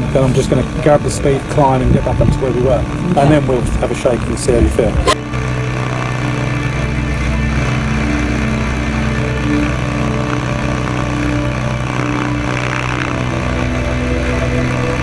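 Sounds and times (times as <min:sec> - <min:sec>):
biplane engine in flight: 0:00.0 - 0:15.0.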